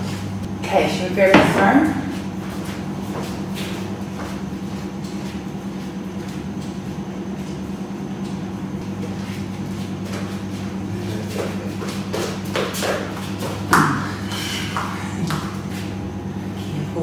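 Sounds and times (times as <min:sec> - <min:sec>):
low steady motor hum: 0:00.0 - 0:17.0.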